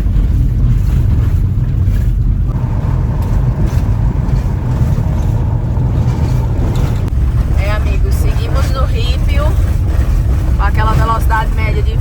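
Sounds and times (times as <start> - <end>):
diesel car driving on gravel: 0.0 - 12.0.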